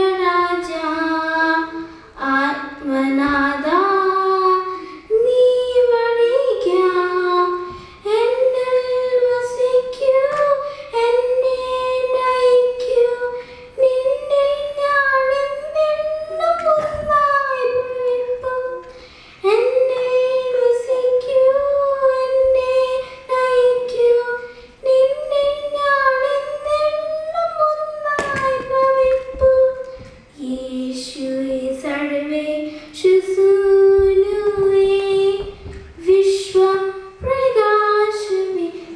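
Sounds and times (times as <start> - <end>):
girl singing unaccompanied: 0.0 - 38.9.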